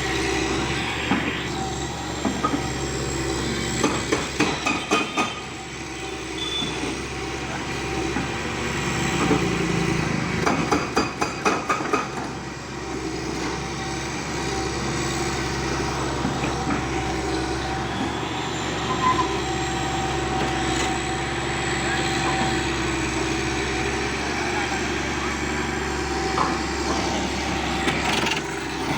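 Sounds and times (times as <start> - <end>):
heavy machinery engine running: 0.0 - 28.9.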